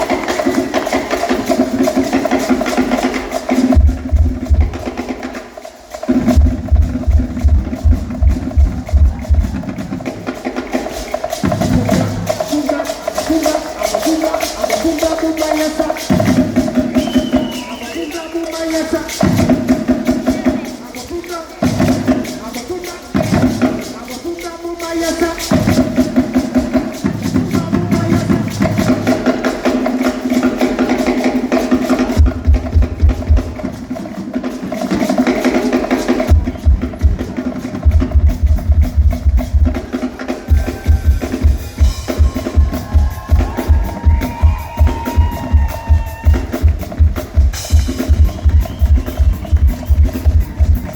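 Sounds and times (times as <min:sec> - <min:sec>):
heavy bass drum beat: 0:00.0 - 0:05.4, 0:06.0 - 0:50.9
live band playing groove: 0:00.0 - 0:50.9.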